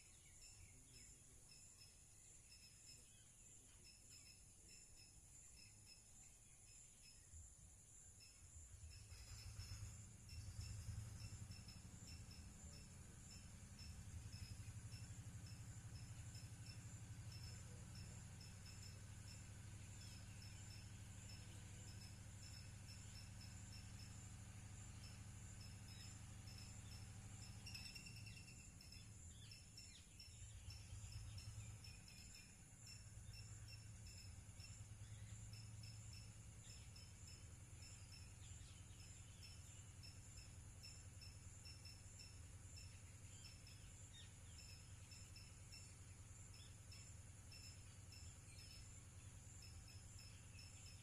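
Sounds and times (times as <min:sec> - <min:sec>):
insects trilling: 0:00.0 - 0:51.0
low steady hum: 0:00.0 - 0:51.0.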